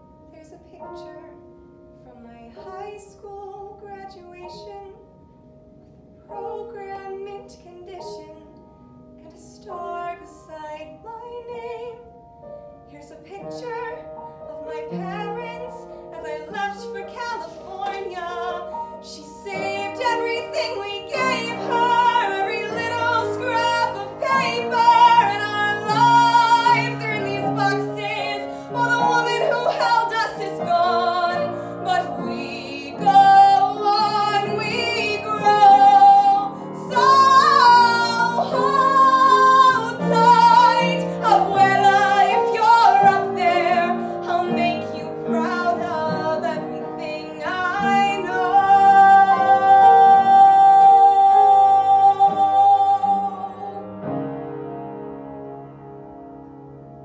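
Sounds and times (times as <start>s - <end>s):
upright piano: 0.0s - 57.0s
woman singing: 2.0s - 5.1s, 6.3s - 8.6s, 9.2s - 12.1s, 12.9s - 53.9s.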